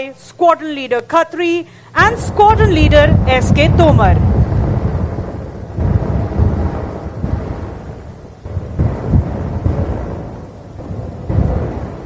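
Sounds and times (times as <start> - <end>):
helicopters rumbling overhead: 2.0 - 12.0.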